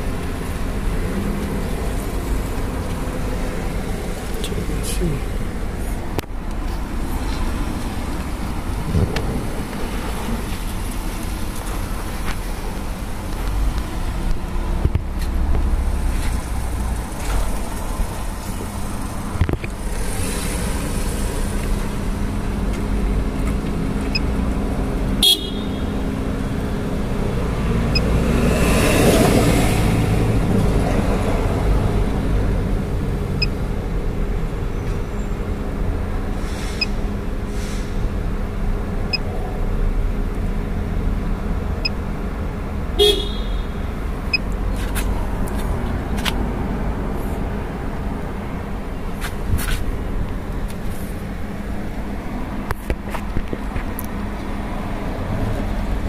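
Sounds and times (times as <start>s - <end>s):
low engine rumble: 0.0s - 56.0s
vehicles passing: 0.0s - 56.0s.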